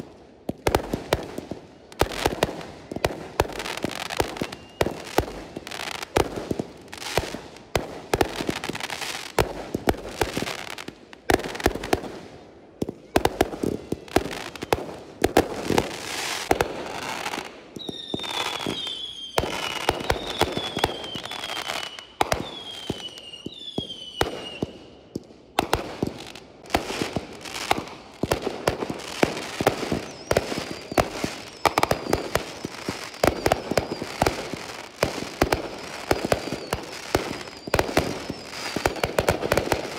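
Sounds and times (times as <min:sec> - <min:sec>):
fireworks bangs and crackles: 0:00.0 - 0:39.9
falling firework whistles: 0:00.8 - 0:07.4, 0:12.8 - 0:15.0, 0:15.6 - 0:39.9.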